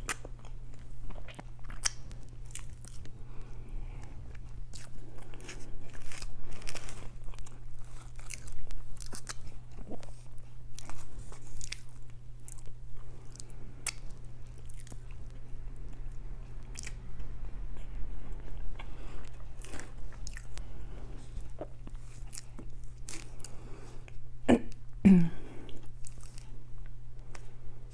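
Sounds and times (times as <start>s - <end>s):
person chewing crunchy food: 0.0s - 24.3s, 25.6s - 27.6s
steady low hum: 0.0s - 27.9s.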